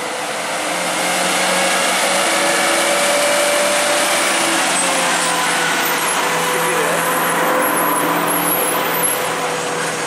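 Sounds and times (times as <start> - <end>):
road noise: 0.0 - 10.0
truck diesel engine passing: 0.0 - 10.0.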